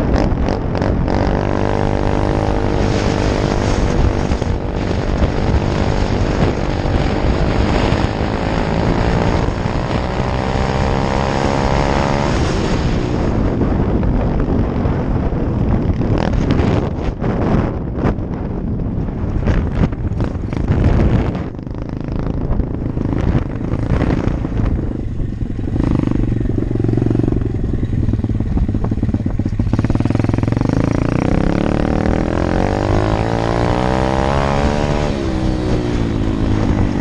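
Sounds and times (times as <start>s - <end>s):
dirt bike engine revving: 0.0s - 13.8s, 20.2s - 37.0s
wind buffeting microphone: 0.0s - 37.0s.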